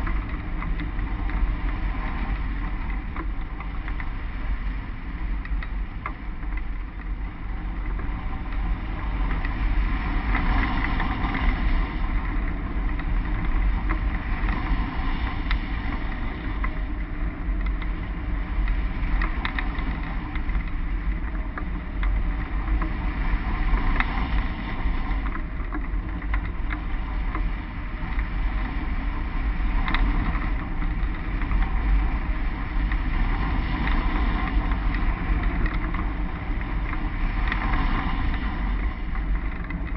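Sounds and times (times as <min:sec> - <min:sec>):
faint ticks: 0:00.0 - 0:39.9
wind rushing over microphone: 0:00.0 - 0:39.9.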